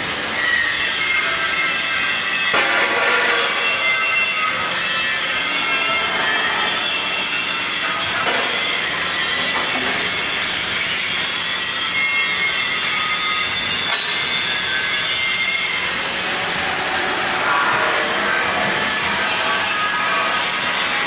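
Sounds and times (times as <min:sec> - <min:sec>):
hydraulic unit whining: 0:00.0 - 0:21.0.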